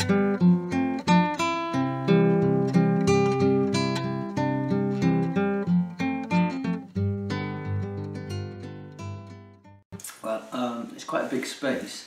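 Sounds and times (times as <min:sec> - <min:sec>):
acoustic guitar music: 0:00.0 - 0:10.5.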